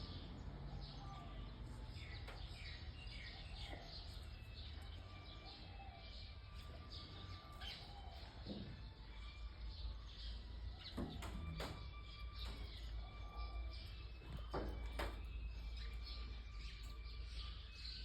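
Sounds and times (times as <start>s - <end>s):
faint bird chirps: 0.9s - 18.0s.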